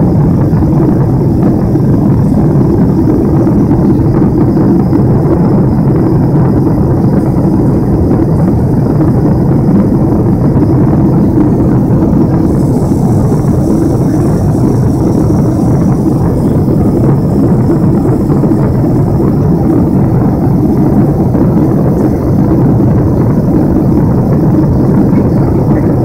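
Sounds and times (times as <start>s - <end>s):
jet engines rumbling: 0.0s - 26.0s
rushing air: 0.0s - 26.0s.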